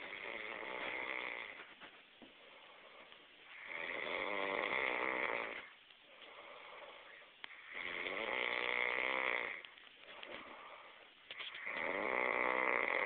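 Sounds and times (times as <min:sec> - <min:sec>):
person snoring: 0:00.0 - 0:01.6, 0:02.6 - 0:13.0
quiet breathing: 0:00.0 - 0:13.0.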